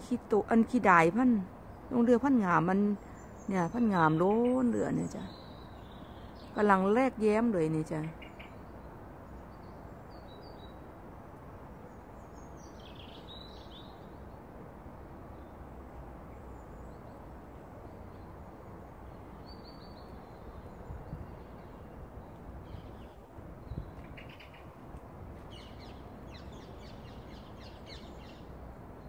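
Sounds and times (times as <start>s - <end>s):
low outdoor background noise: 0.0s - 29.0s
songbird chirps: 0.0s - 29.0s.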